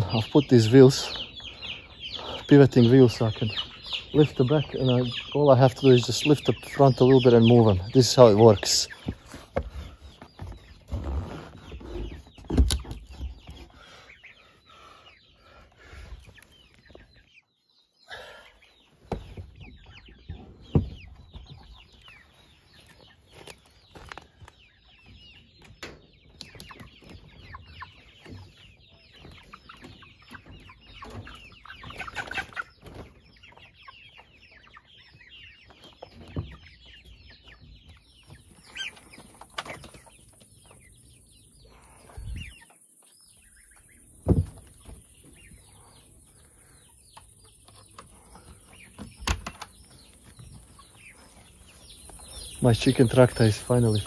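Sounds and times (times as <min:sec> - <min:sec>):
chickens clucking and cheeping: 0:00.0 - 0:54.0.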